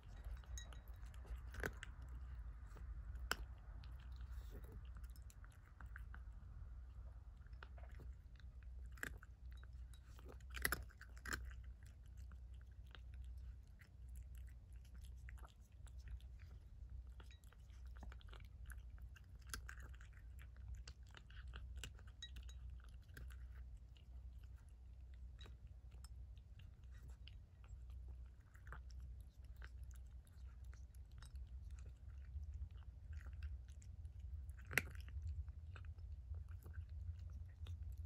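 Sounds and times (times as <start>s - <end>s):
cat chewing food: 0.0s - 38.0s.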